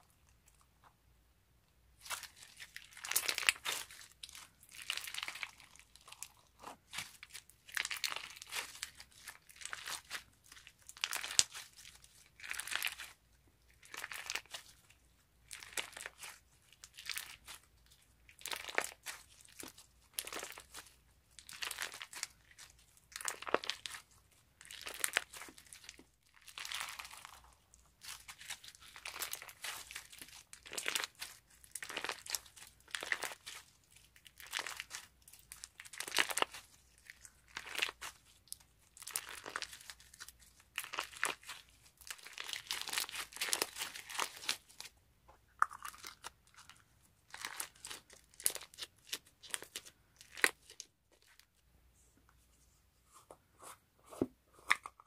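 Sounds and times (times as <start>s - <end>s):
crunchy slime crackling: 2.0s - 51.4s.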